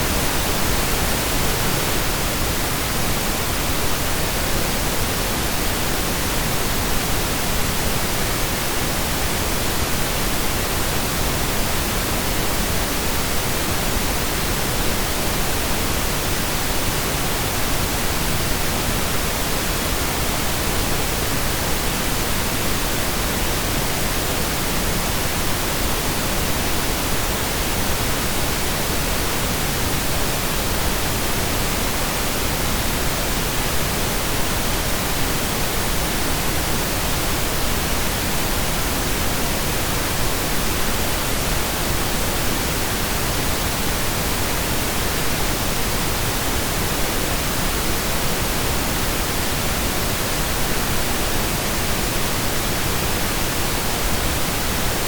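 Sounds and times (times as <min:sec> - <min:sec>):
synthesized pink noise hiss: 0:00.0 - 0:55.0.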